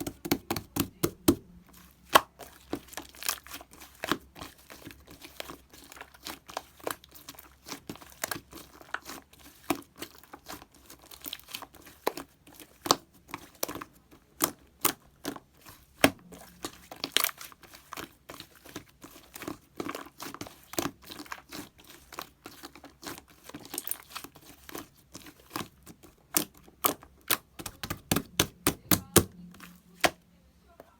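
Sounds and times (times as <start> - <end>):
slime clicking and crackling: 0.0 - 30.2.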